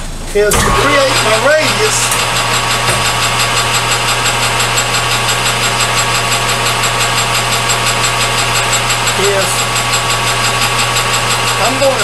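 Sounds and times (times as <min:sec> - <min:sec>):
metal lathe humming: 0:00.5 - 0:12.0.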